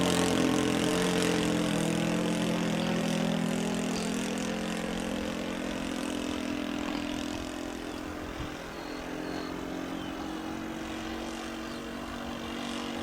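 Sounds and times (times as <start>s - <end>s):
model aircraft engine drone: 0.0s - 13.0s.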